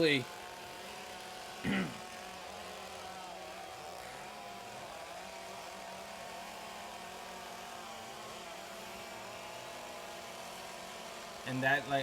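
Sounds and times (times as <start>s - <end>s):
chainsaws running: 0.0s - 12.0s.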